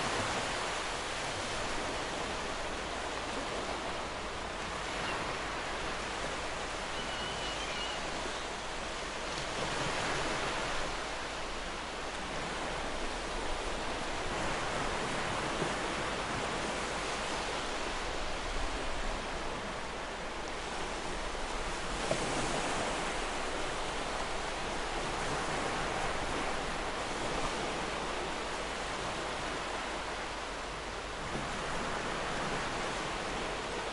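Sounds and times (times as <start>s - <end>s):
ocean waves breaking: 0.0s - 33.9s.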